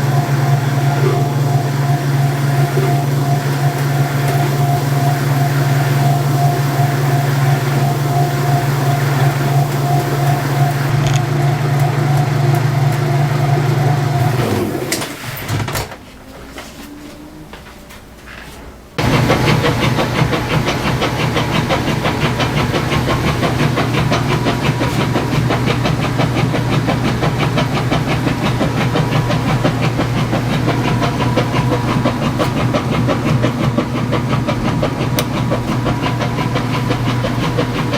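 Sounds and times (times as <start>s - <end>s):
washing machine churning: 0.0s - 16.7s, 18.8s - 37.9s
washing machine motor hum: 0.0s - 16.7s, 18.8s - 37.9s.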